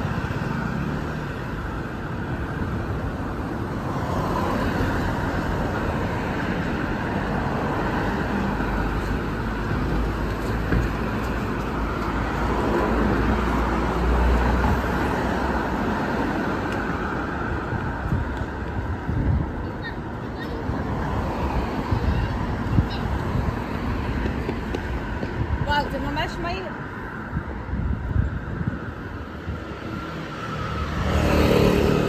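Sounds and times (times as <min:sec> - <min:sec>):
street traffic noise: 0:00.0 - 0:32.0.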